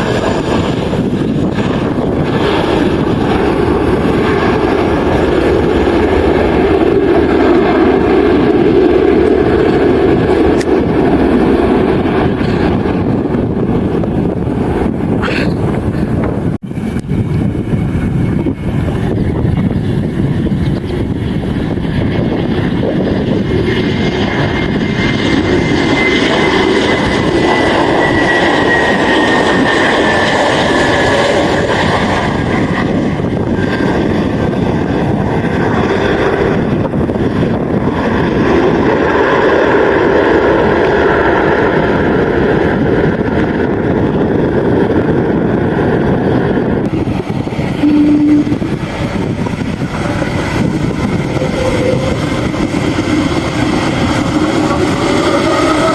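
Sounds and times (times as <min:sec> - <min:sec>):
airliner engines running: 0:00.0 - 0:55.9.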